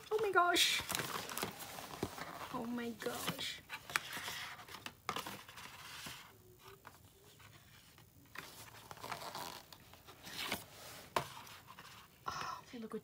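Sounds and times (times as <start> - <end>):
photo cards rustling and scraping: 0.0 - 12.3.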